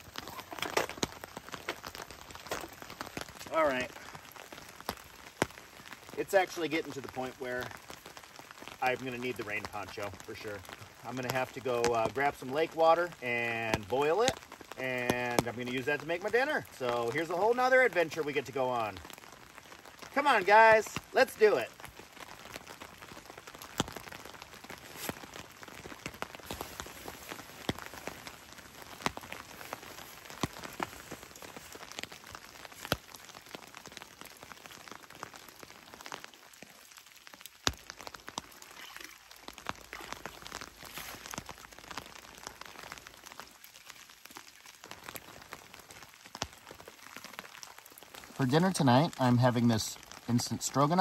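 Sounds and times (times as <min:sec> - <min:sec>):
rain pattering: 0:00.0 - 0:51.0
raindrop ticks: 0:00.0 - 0:51.0.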